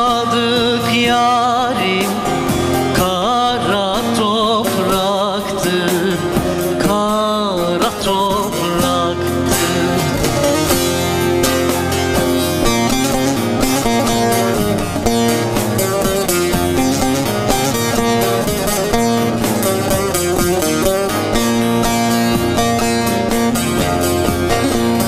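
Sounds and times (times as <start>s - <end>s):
keyboard: 0.0s - 25.0s
long-necked lute plucked: 0.0s - 25.0s.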